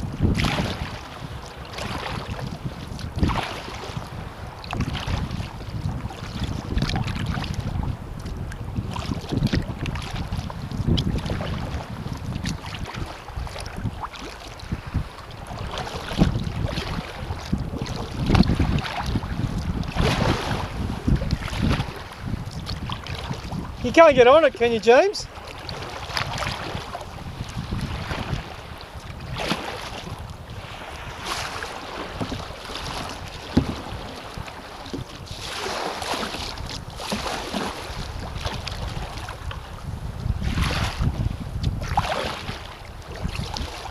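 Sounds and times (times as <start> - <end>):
water splashing and lapping: 0.0 - 43.9
wind buffeting microphone: 0.0 - 43.9.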